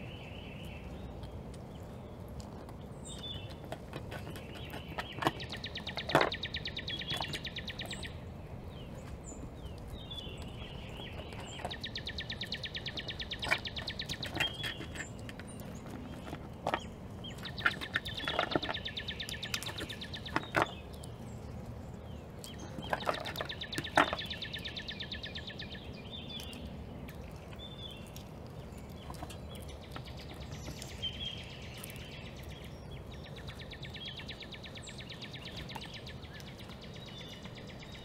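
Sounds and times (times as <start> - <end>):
songbird trilling: 3.0 - 21.2, 22.0 - 38.0.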